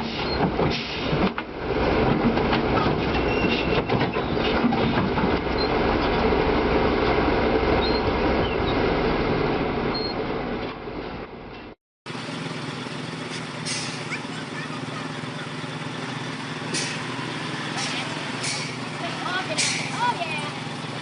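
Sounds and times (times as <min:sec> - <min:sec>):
heavy vehicle rumbling: 0:00.0 - 0:21.0
quiet steady vehicle: 0:02.2 - 0:21.0.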